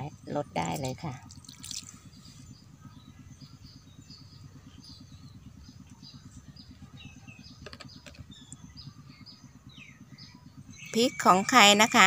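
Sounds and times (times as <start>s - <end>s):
low pulsing hum: 0.0s - 12.0s
small birds chirping: 0.0s - 12.0s.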